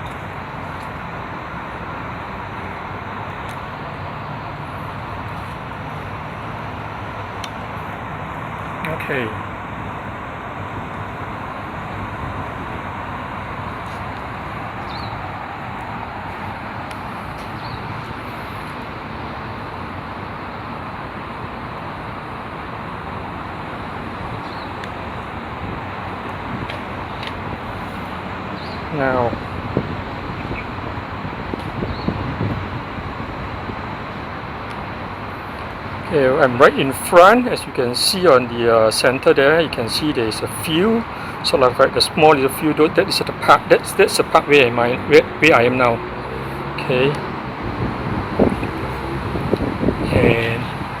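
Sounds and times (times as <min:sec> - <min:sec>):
constant even roar: 0:00.0 - 0:51.0
wind buffeting microphone: 0:00.0 - 0:51.0.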